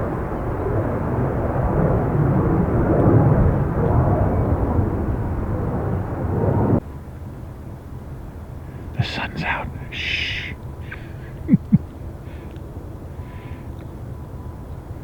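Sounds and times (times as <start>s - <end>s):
jet aircraft engines roaring: 0.0s - 15.0s.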